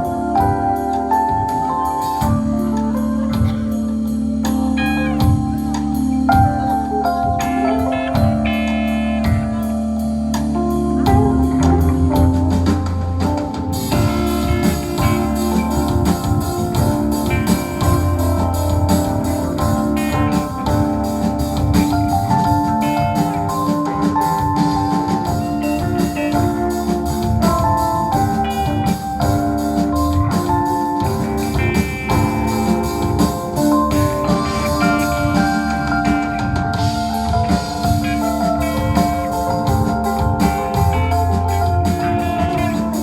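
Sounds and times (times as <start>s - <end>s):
bass: 0.0s - 43.0s
held keyboard notes: 0.0s - 43.0s
steady drum beat: 0.0s - 43.0s.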